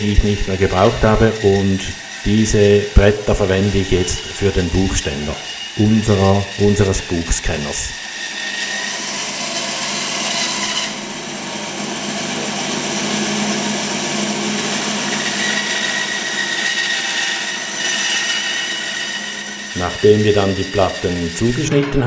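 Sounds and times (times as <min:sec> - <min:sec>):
bandsaw cutting board: 0:00.0 - 0:22.0.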